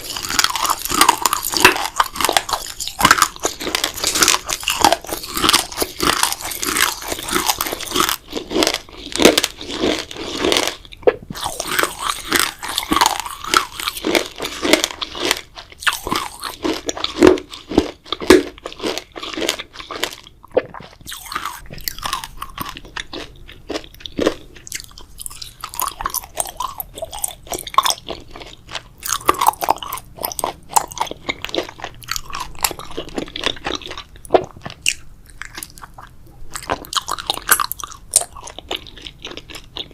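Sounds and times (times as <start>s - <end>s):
wet chewing and biting: 0.0s - 39.9s.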